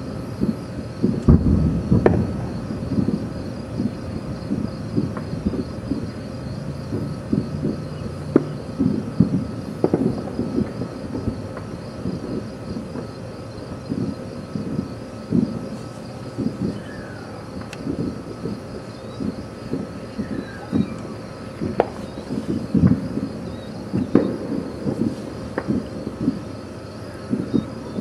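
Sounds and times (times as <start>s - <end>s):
crickets chirping: 0.0s - 28.0s
distant fireworks rumbling: 0.0s - 28.0s
sharp firework reports: 0.0s - 28.0s.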